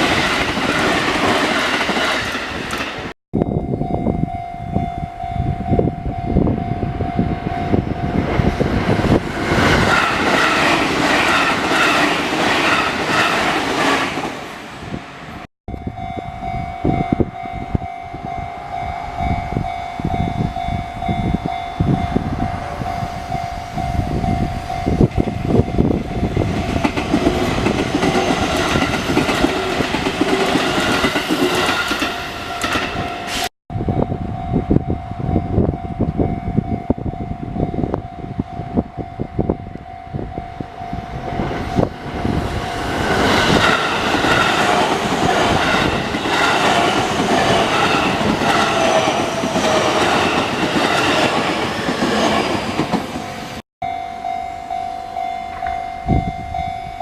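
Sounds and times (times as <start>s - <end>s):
crossing warning bell: 3.4s - 13.6s, 15.7s - 57.0s.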